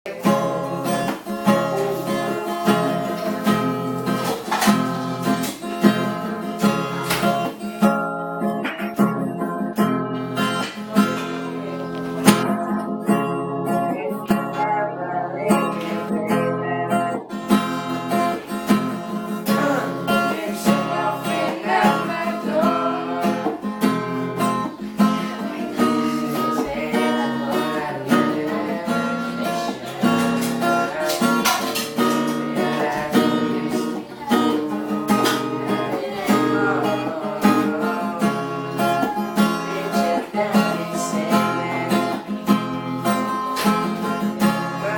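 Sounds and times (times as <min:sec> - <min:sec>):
acoustic guitar strumming: 0:00.1 - 0:44.9.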